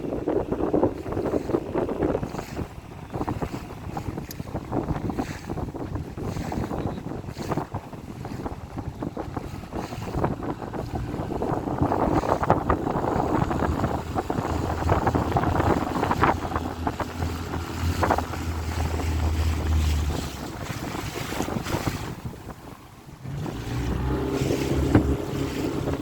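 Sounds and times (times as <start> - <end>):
motorboat engine humming: 0.0 - 26.0
water splashing at hull: 0.0 - 26.0
wind buffeting microphone: 0.0 - 26.0.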